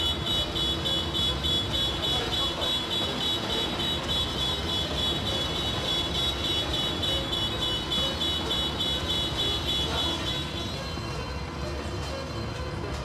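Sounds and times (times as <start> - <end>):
fire engine running: 0.0 - 13.0.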